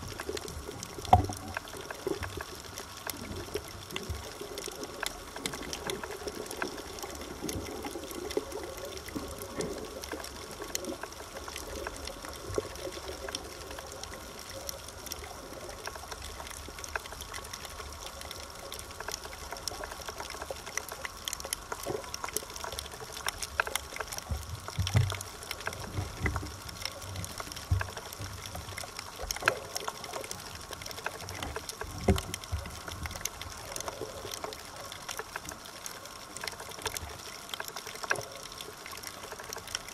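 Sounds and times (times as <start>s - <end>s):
crackling clicks underwater: 0.0s - 39.9s.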